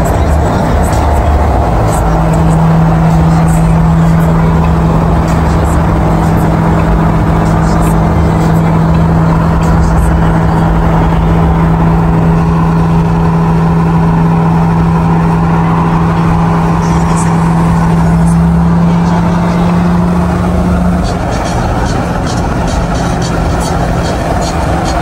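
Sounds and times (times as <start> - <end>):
car engine droning: 0.0 - 25.0
road and wind noise: 0.0 - 25.0.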